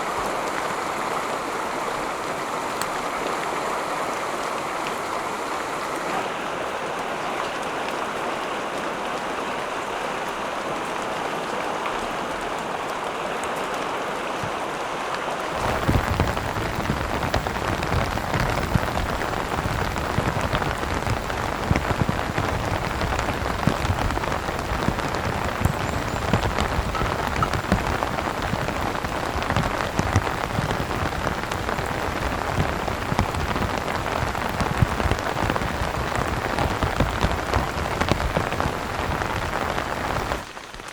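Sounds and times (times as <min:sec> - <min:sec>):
heavy rain falling: 0:00.0 - 0:40.9
raindrops striking a surface: 0:00.0 - 0:40.9.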